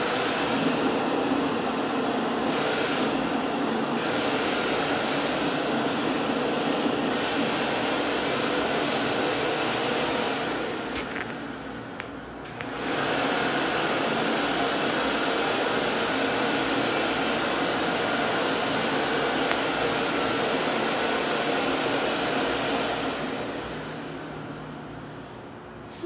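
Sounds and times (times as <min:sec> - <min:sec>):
hand dryer blowing: 0:00.0 - 0:25.3.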